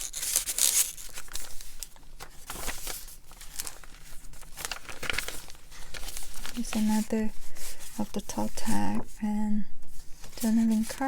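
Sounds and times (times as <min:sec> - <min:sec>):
paper rustling and crinkling: 0:00.0 - 0:09.2, 0:09.8 - 0:11.0.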